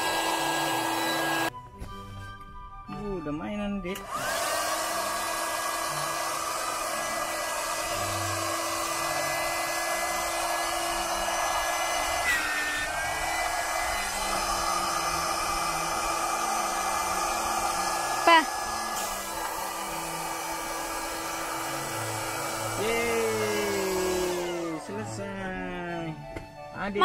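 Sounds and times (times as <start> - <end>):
electric air pump whining: 0.0 - 1.5, 3.9 - 26.5.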